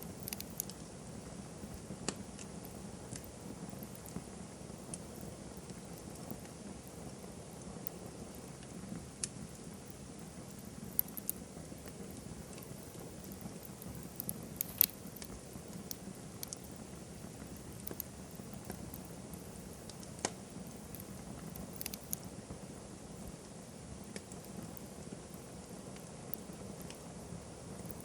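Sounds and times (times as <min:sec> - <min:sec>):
campfire crackling and popping: 0:00.0 - 0:28.0
low steady hiss: 0:00.0 - 0:28.0.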